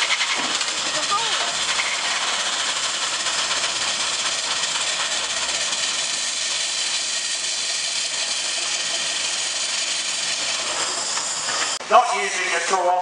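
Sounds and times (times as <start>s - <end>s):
steam shovel hissing steam: 0.0s - 13.0s.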